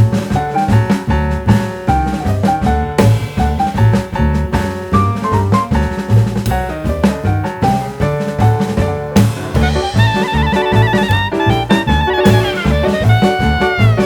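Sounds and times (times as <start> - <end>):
upbeat jazzy tune: 0.0 - 14.0.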